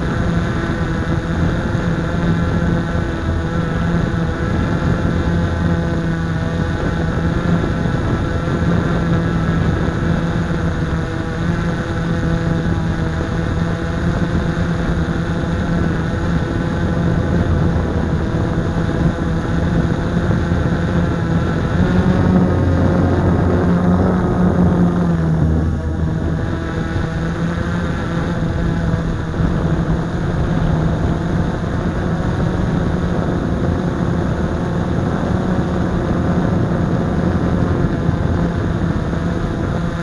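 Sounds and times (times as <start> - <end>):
drone motors buzzing: 0.0 - 40.0.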